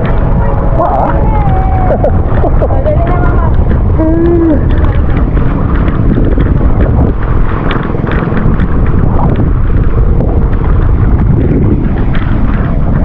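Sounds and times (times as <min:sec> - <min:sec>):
motorboat engine running: 0:00.0 - 0:13.0
wind buffeting microphone: 0:00.0 - 0:13.0.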